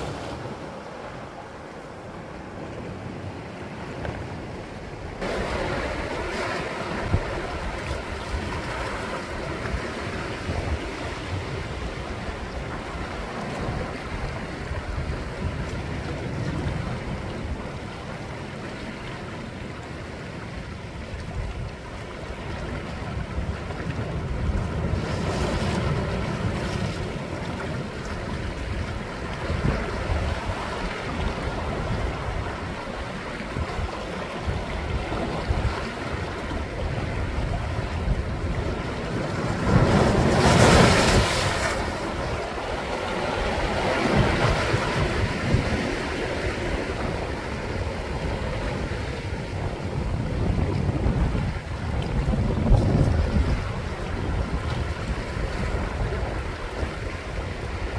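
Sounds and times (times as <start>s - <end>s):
sea waves washing among rocks: 0.0s - 57.9s.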